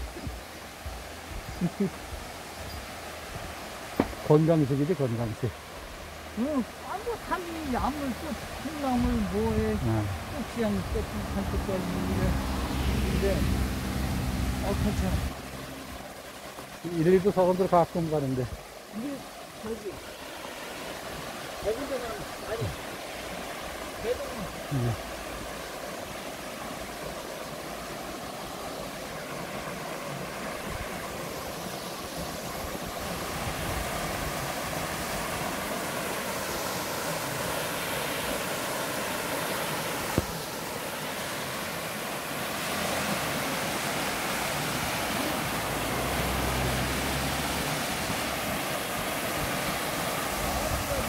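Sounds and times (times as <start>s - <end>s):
stream splashing over rocks: 0.0s - 51.0s.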